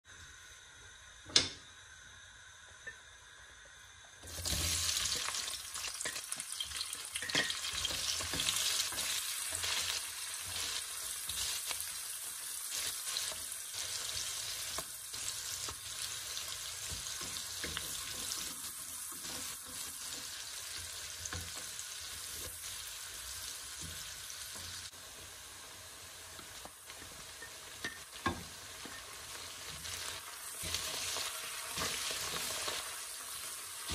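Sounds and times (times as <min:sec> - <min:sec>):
onions sizzling in hot oil: 0:00.2 - 0:33.9.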